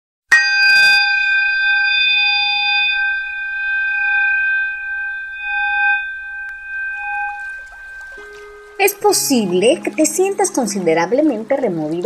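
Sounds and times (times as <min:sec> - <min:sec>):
bell strike and ringing: 0:00.3 - 0:10.6.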